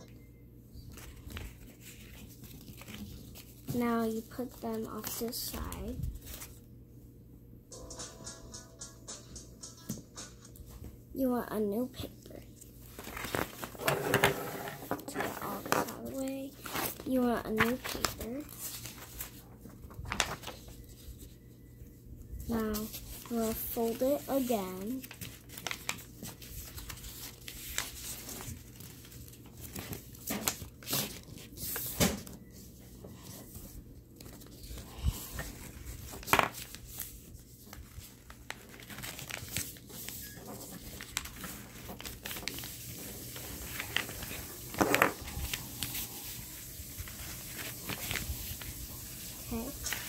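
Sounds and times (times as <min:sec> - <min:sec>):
paper rustling and crinkling: 0:00.8 - 0:06.7, 0:11.7 - 0:21.4, 0:22.4 - 0:50.0.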